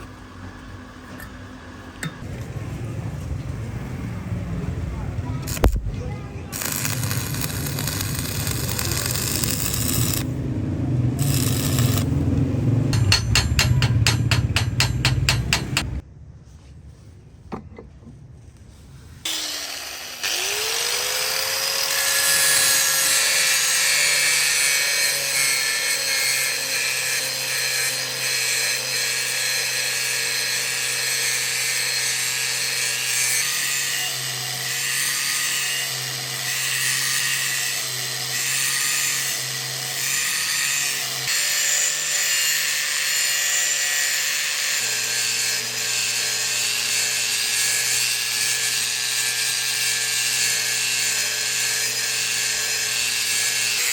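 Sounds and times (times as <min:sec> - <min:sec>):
electric grinder whining: 0:06.5 - 0:10.4, 0:11.1 - 0:16.0, 0:19.3 - 0:53.9.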